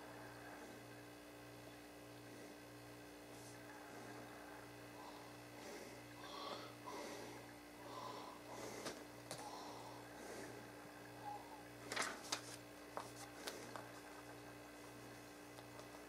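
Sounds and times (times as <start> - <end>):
pulsing electrical hum: 0.0 - 16.0.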